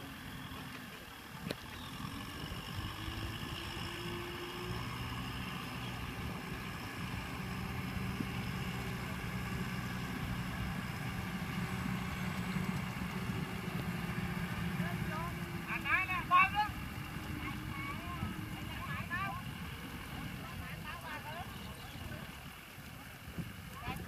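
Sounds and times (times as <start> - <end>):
distant tractor diesel engine: 0.0 - 22.9.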